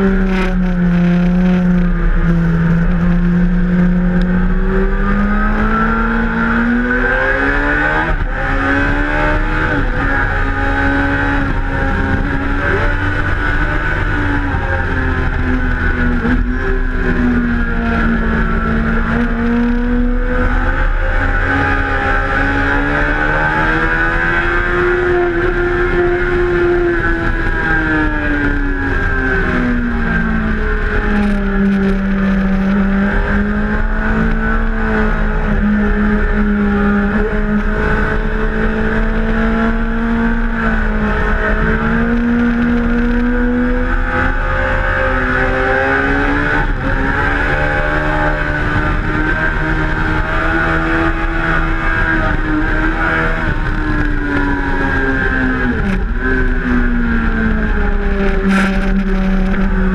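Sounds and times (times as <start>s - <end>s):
motorcycle engine revving: 0.0s - 59.9s
rushing wind noise: 0.0s - 59.9s.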